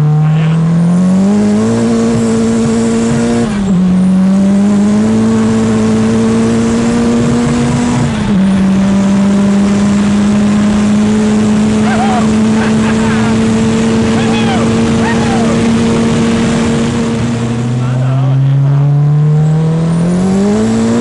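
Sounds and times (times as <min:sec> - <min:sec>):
vehicle engine revving at speed: 0:00.0 - 0:21.0
wind and road rush: 0:00.0 - 0:21.0.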